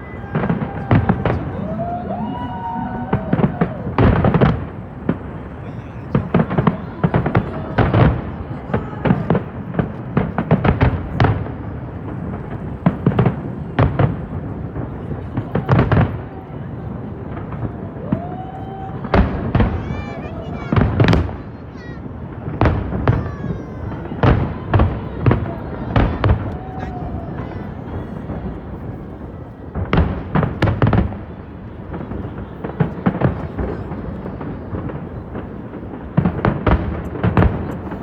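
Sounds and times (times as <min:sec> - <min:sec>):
fireworks whistling: 0:00.0 - 0:16.3, 0:17.1 - 0:38.0
fireworks bangs and crackles: 0:00.0 - 0:38.0.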